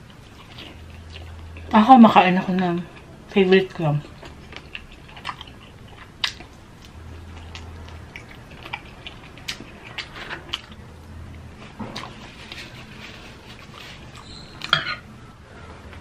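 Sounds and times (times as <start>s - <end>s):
crunchy chewing of fried chicken: 0.0s - 1.8s, 3.9s - 14.9s.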